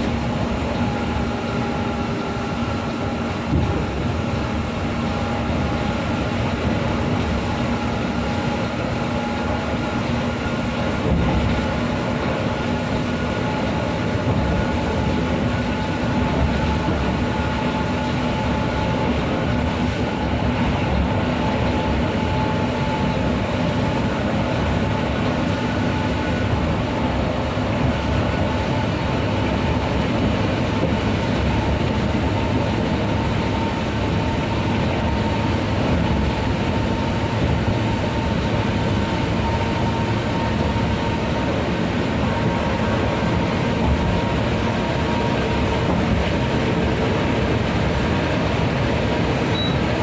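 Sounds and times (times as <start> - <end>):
bus engine drone: 0.0 - 50.0.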